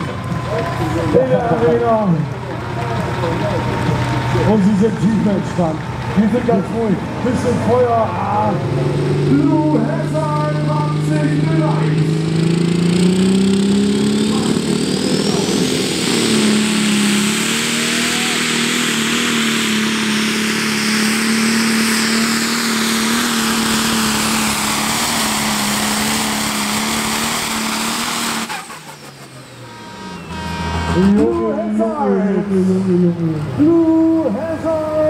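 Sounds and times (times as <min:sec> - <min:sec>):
diesel engine running flat out: 0:00.0 - 0:35.0
high turbo whine: 0:00.0 - 0:35.0.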